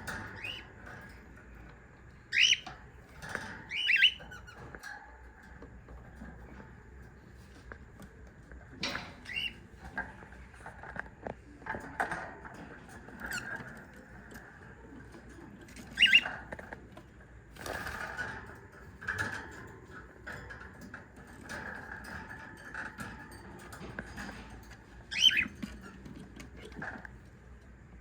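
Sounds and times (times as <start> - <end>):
scratching and rustling: 0.0 - 28.0.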